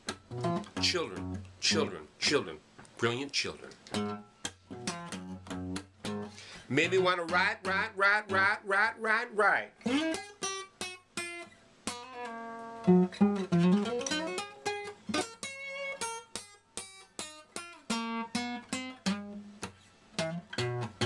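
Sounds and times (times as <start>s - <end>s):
acoustic guitar picking and strumming: 0.0s - 21.0s.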